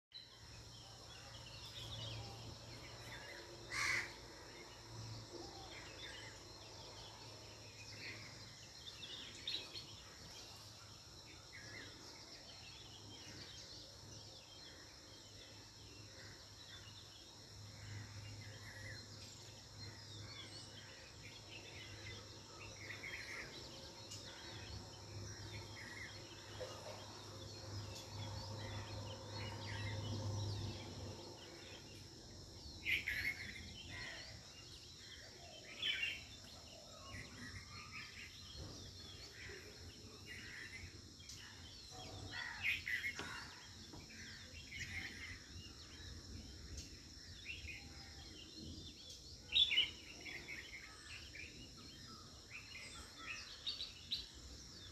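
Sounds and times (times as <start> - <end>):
birds chirping: 0.1 - 54.9
insects trilling: 0.2 - 54.9.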